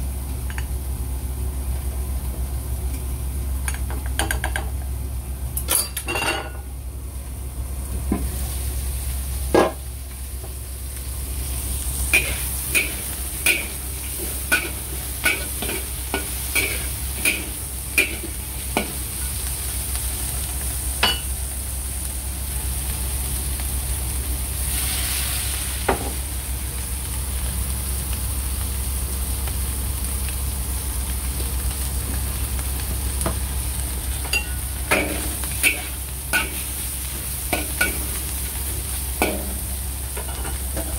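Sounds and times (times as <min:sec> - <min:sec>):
shrimp sizzling in a wok: 0:00.0 - 0:40.9
steady low hum: 0:00.0 - 0:40.9.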